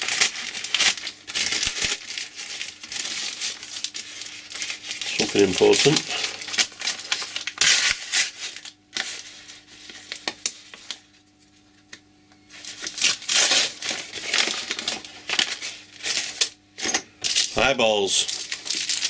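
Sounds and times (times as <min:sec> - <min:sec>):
packaging crinkling and tearing: 0:00.0 - 0:16.6, 0:17.2 - 0:19.0.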